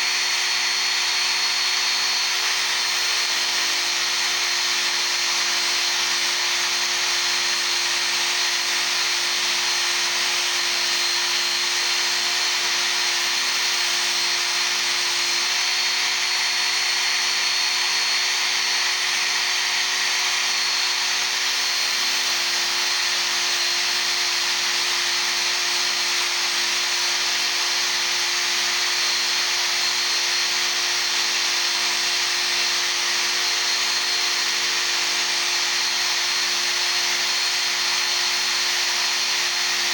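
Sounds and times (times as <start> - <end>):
belt sharpener grinding steel: 0.0 - 39.9.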